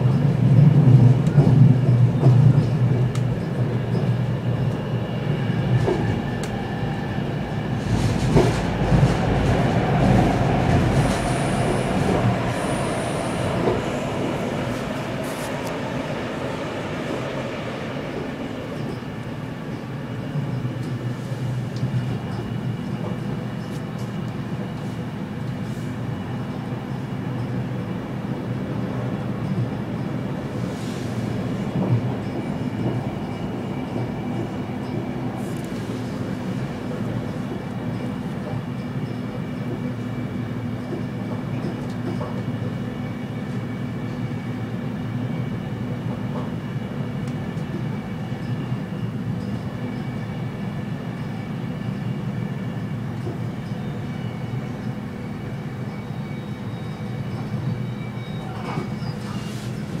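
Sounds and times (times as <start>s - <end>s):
train interior low rumble: 0.0s - 60.0s.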